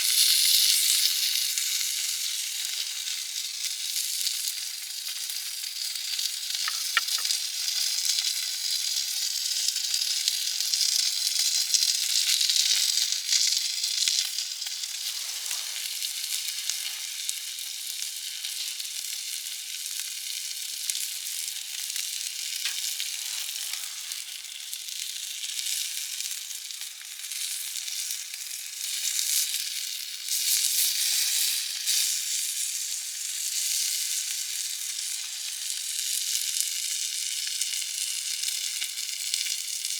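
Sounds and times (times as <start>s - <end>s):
campfire grill sizzling: 0.0s - 39.9s.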